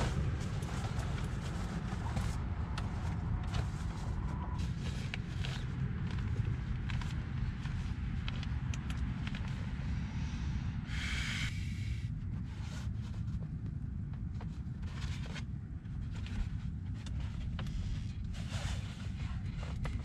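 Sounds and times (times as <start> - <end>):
faint rustling and handling: 0.0 - 9.8, 12.2 - 20.0
steady low rumble: 0.0 - 20.0.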